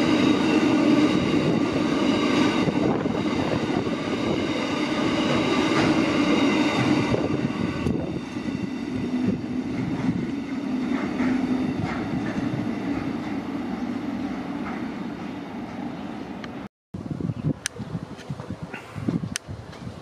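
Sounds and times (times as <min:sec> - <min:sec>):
freight train wheels rumbling: 0:00.0 - 0:16.7.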